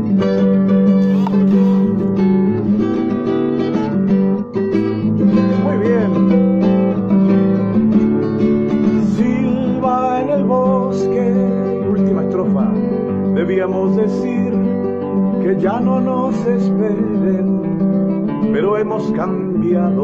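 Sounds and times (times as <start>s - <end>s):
classical guitar strumming chords: 0.0s - 20.0s.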